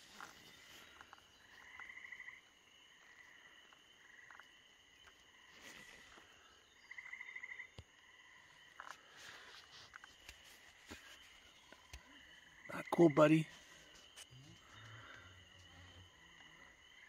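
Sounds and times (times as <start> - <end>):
chorus of high frog calls: 0.0 - 17.0.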